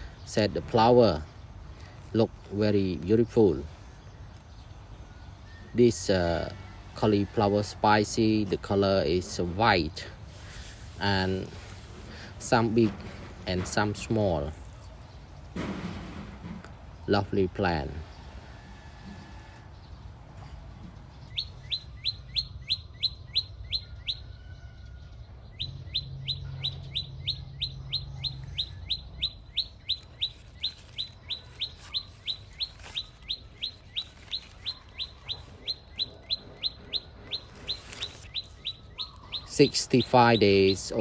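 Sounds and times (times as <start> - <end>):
bird chirping: 0.0 - 41.0.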